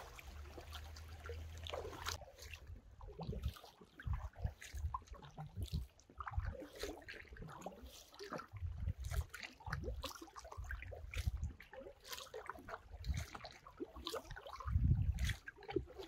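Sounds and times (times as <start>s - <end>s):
paddle splashes and drips: 0.0s - 16.0s.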